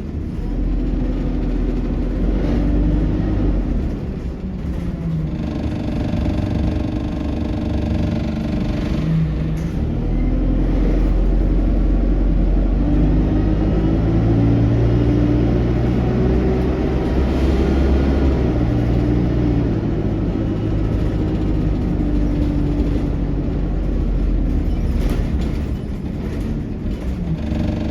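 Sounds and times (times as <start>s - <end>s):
bus engine changing gear: 0.0s - 27.9s
loud droning bus whine: 0.0s - 27.9s.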